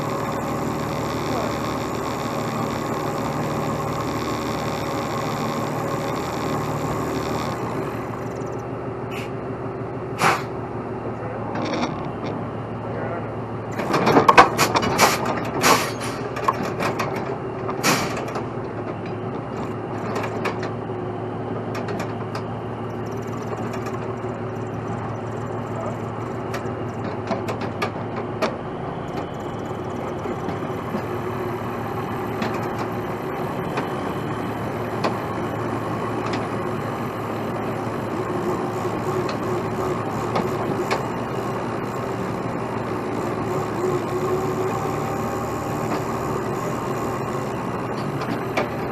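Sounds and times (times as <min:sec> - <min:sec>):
truck diesel engine running: 0:00.0 - 0:48.9.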